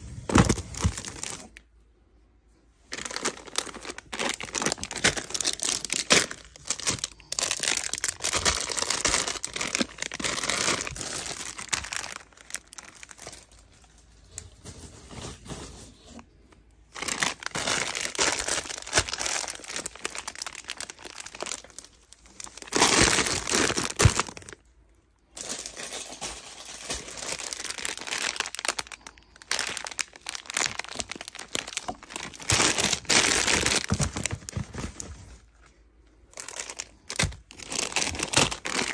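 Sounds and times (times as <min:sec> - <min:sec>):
plastic packets crinkling: 0:00.0 - 0:01.7, 0:02.8 - 0:14.6, 0:16.1 - 0:38.9.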